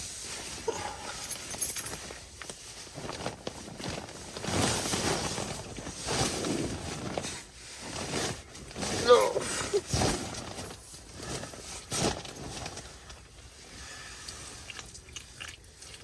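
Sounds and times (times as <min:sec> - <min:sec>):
rustling and shuffling: 0:00.0 - 0:14.1.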